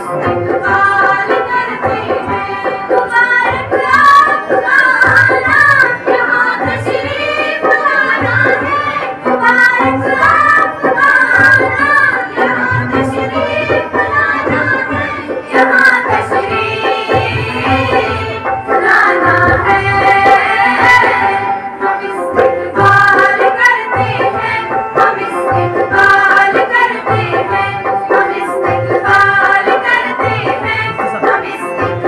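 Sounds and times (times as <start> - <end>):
steady percussion beat: 0.0 - 32.0
women singing together: 0.0 - 32.0.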